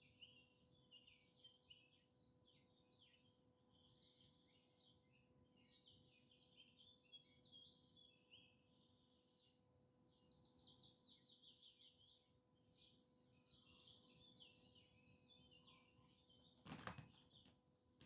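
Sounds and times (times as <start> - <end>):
small songbirds chirping: 0.0 - 17.6.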